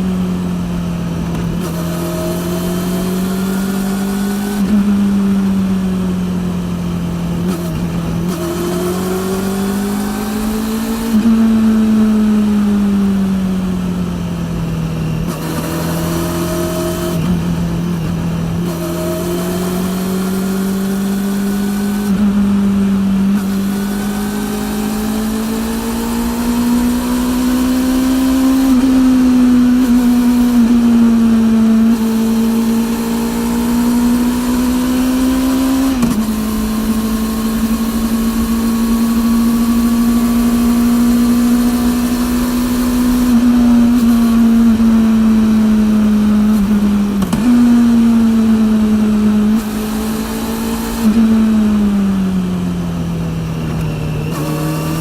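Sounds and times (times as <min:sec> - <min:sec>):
motorcycle engine at mid revs: 0:00.0 - 0:55.0.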